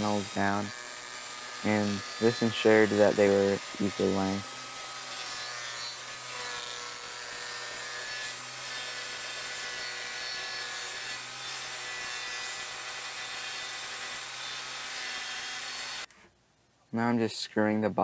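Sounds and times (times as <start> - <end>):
table saw cutting plywood: 0.0 - 16.1.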